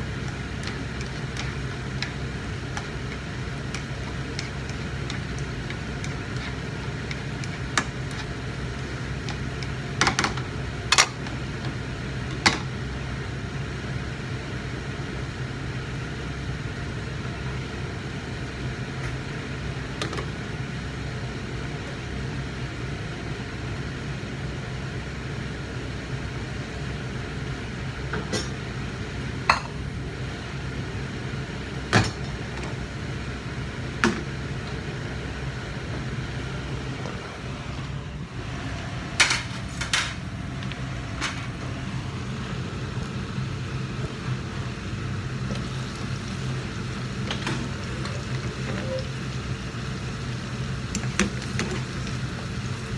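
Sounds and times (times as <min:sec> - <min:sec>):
range hood fan humming: 0:00.0 - 0:52.9.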